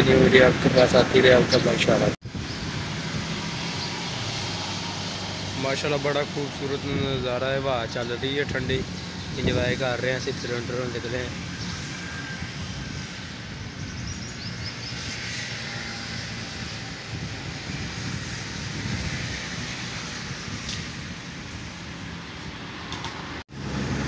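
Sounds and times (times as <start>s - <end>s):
road traffic hum: 0.0s - 24.0s
wind: 0.0s - 24.0s.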